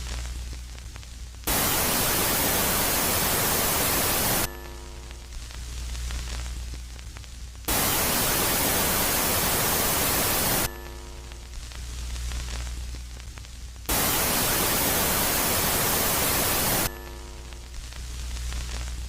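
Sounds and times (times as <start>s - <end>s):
faint steady tones: 0.0s - 19.0s
white-noise static: 0.0s - 19.0s.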